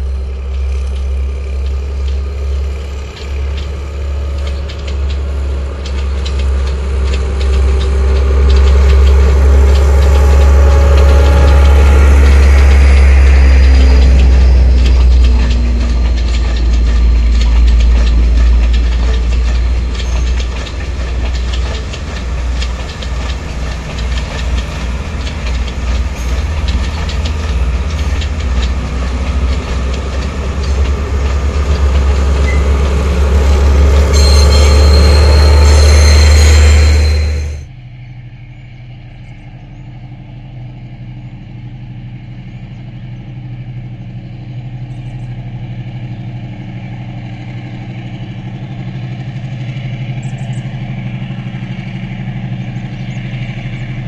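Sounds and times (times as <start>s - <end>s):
train wheels clattering over rail joints: 0.0s - 37.7s, 44.1s - 54.0s
diesel engine droning: 0.0s - 54.0s.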